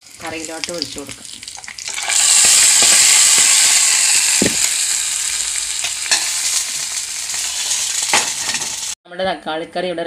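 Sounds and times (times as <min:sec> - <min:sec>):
hot oil sizzling: 0:00.0 - 0:09.0.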